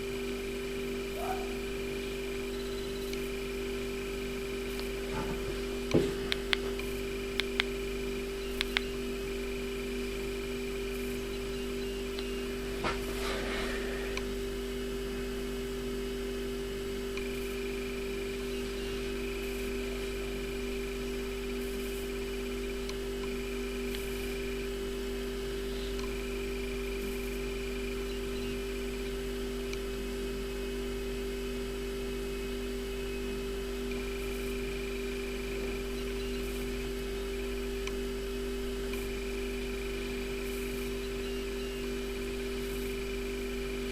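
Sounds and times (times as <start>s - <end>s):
electrical hum: 0.0s - 43.9s.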